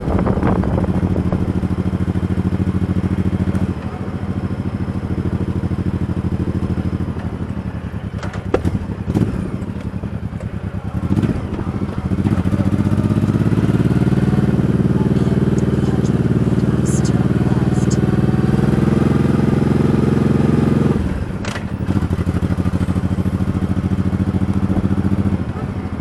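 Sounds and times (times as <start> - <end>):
motorcycle engine pulsing: 0.0 - 26.0.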